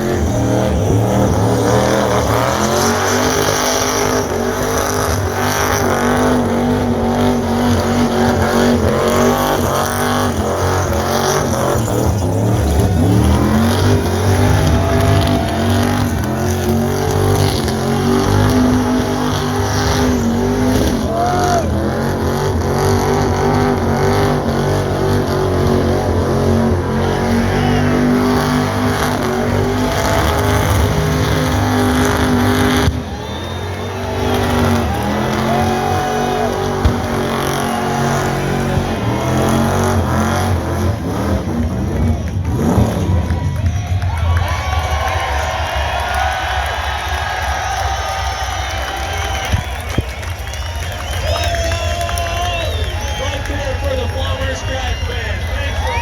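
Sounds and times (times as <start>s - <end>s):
engine at high revs: 0.0s - 56.0s.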